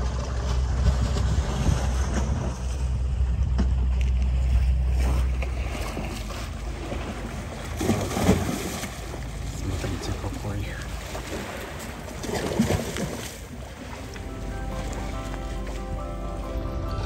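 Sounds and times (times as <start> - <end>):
heavy low rumble: 0.0 - 12.8, 13.5 - 17.0
wind buffeting microphone: 0.0 - 14.0.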